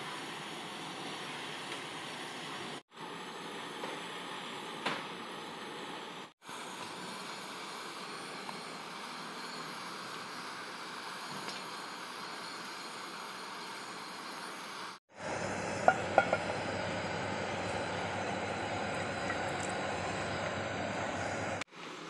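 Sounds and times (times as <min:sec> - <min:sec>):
gas burner hissing: 0:00.0 - 0:22.0.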